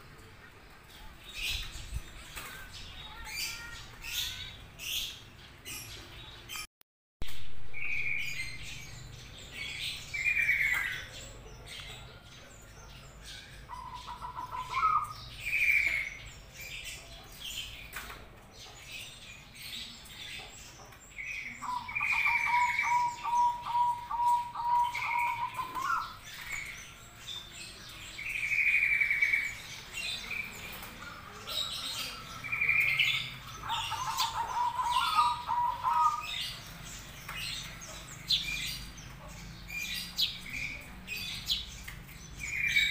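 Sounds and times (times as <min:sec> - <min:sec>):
caged birds chirping and whistling: 0:00.0 - 0:06.7, 0:07.7 - 0:42.9.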